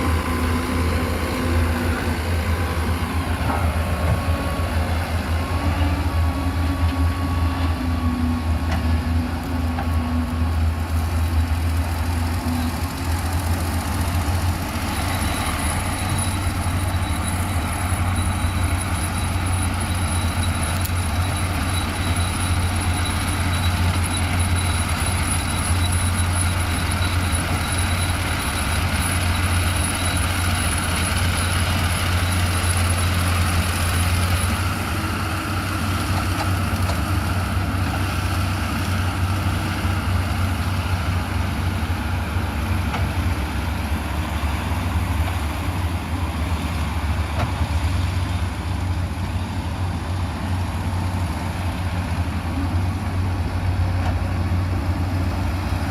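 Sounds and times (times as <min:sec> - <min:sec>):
diesel engine humming: 0:00.0 - 0:55.9.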